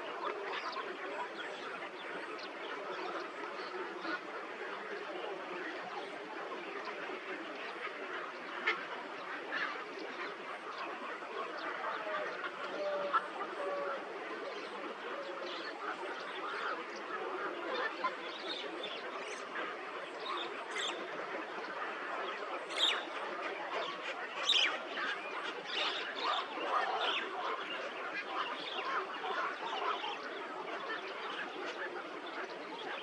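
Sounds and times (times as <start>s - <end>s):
many birds calling: 0.0s - 33.0s.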